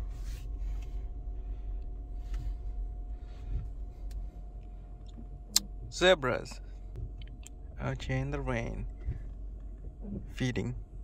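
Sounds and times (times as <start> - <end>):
car cabin rumble: 0.0 - 11.0
faint steady hum: 0.0 - 11.0.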